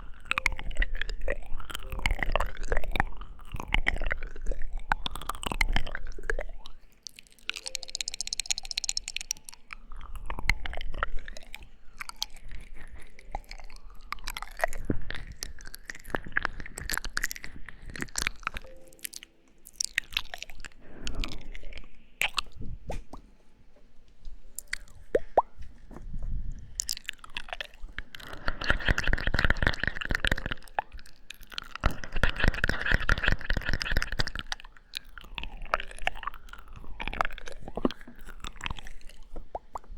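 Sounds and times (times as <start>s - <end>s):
wet mouth smacks and clicks: 0.0s - 23.1s, 24.6s - 25.5s, 26.7s - 39.9s.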